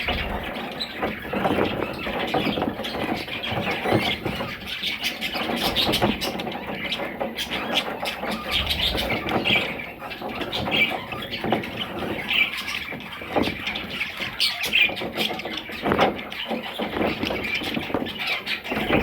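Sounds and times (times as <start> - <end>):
parrots squawking and chattering: 0.0 - 19.0.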